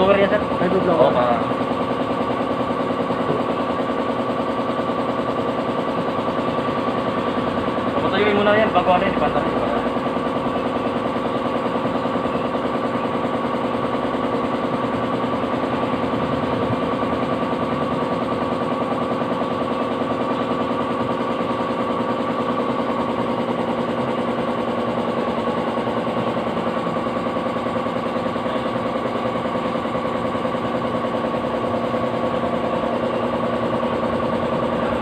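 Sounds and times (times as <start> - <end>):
machine droning with buzzing rattle: 0.0 - 35.0.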